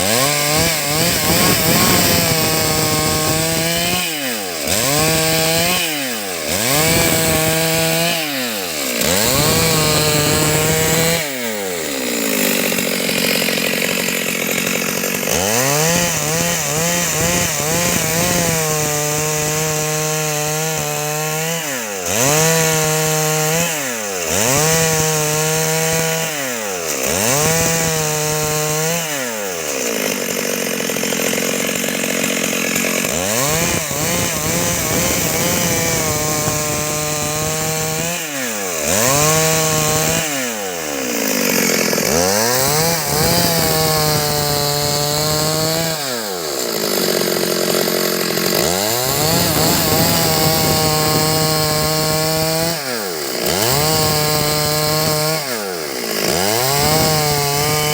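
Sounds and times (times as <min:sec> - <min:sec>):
chainsaw cutting a log: 0:00.0 - 0:57.9.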